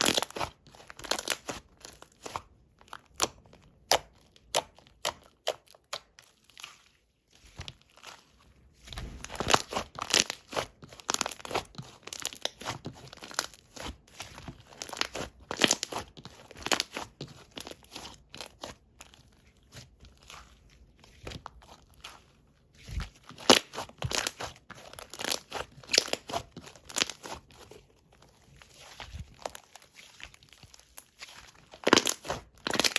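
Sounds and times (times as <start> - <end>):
slime squished and crunching: 0.0 - 32.9.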